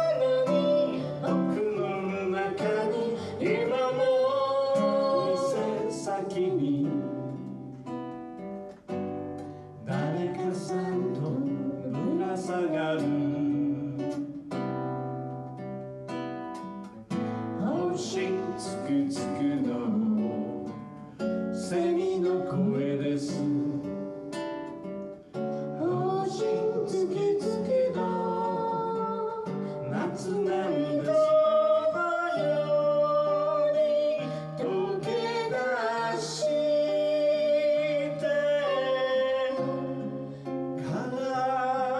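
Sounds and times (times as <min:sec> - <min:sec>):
person singing folk song: 0:00.0 - 0:15.2, 0:16.5 - 0:41.9
strummed acoustic guitar: 0:00.0 - 0:41.9.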